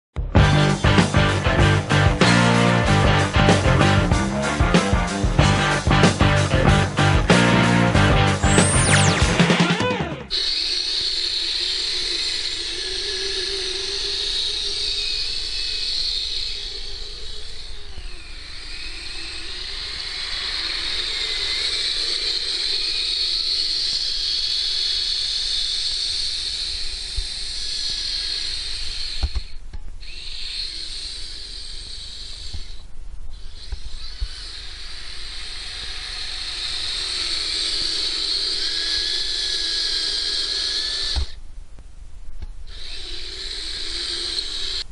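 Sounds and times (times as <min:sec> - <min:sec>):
electric motor and gear whine: 0:00.2 - 0:41.4, 0:42.6 - 0:44.9.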